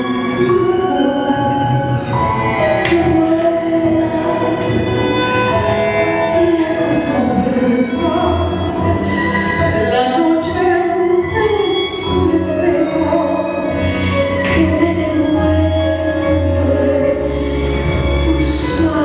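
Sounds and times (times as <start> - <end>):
instrumental accompaniment: 0.0 - 19.0
woman singing into microphone: 0.0 - 19.0.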